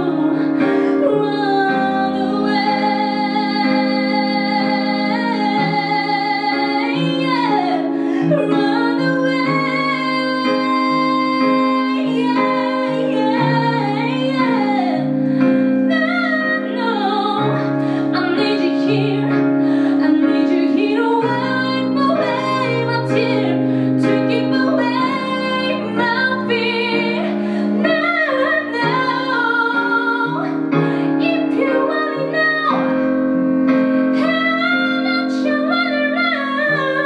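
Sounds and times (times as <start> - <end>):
woman singing: 0.0 - 33.4, 34.0 - 37.0
piano chords: 0.0 - 37.0.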